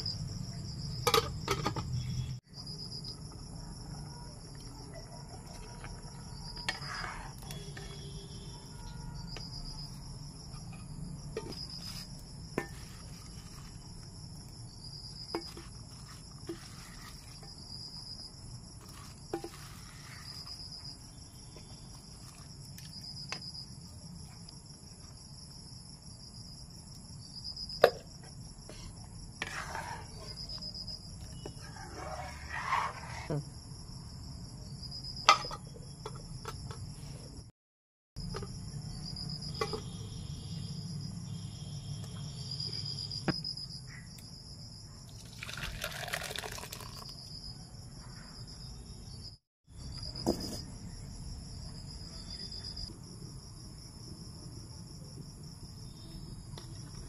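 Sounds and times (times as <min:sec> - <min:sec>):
night insects trilling: 0:02.0 - 0:36.4, 0:38.2 - 0:57.0.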